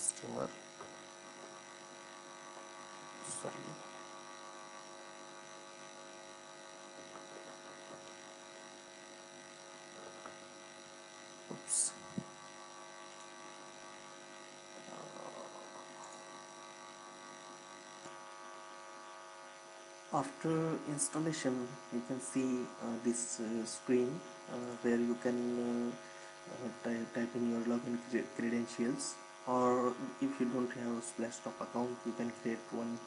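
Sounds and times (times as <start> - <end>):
electrical mains hum: 0.0 - 33.0.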